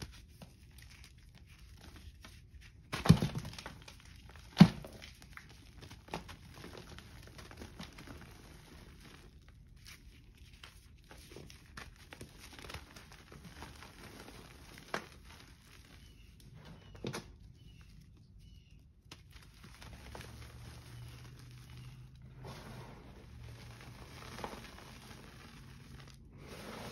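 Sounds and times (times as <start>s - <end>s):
chalk crumbling and crunching: 0.0s - 16.9s, 17.6s - 26.9s.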